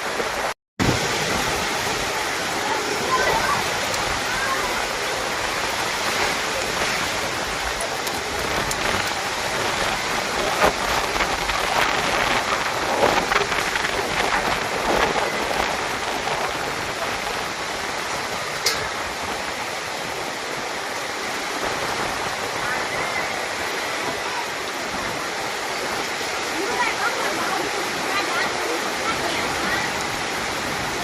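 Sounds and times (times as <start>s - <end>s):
heavy rain pouring: 0.0s - 31.0s
raindrops tapping surfaces: 0.0s - 31.0s.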